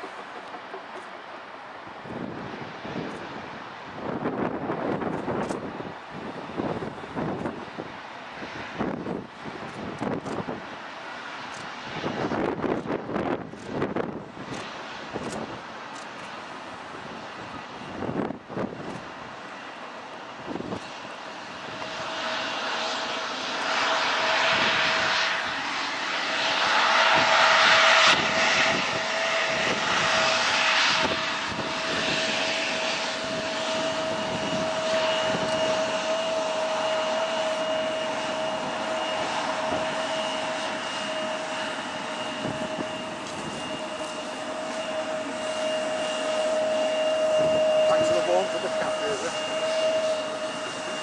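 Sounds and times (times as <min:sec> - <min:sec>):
jet engines whining: 0:00.0 - 0:51.0.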